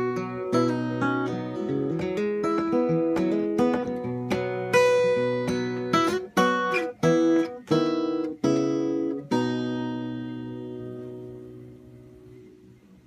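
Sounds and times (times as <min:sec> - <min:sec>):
acoustic guitar strumming chords: 0:00.0 - 0:12.8.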